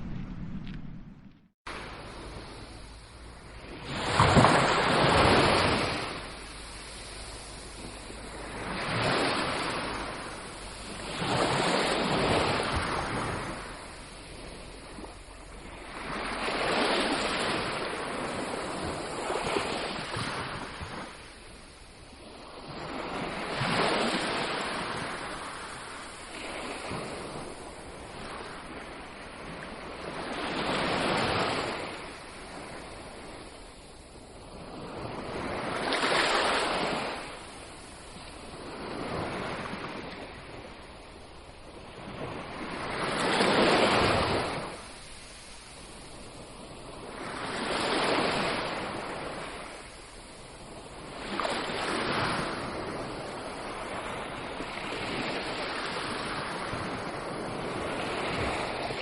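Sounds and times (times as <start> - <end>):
waves breaking on beach: 1.7 - 59.0.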